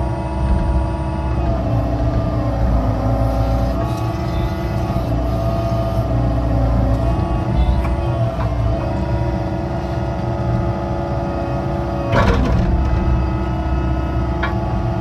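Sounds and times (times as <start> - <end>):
excavator diesel engine running: 0.0 - 15.0
hydraulic pump whine: 0.0 - 15.0.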